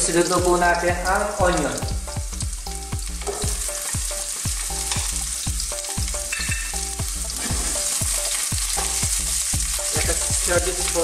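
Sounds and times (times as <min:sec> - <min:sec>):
background music with steady beat: 0:00.0 - 0:11.0
onion sizzling in oil: 0:00.0 - 0:11.0.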